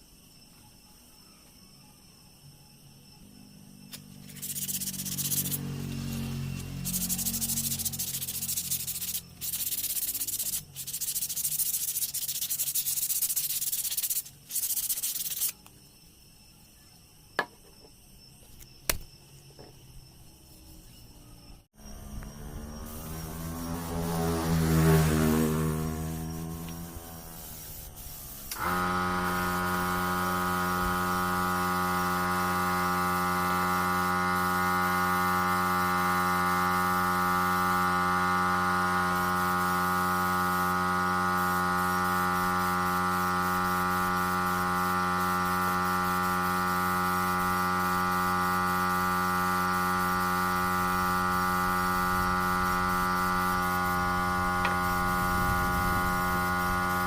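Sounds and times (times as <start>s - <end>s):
steady electric hum: 3.8s - 15.6s, 20.4s - 57.0s.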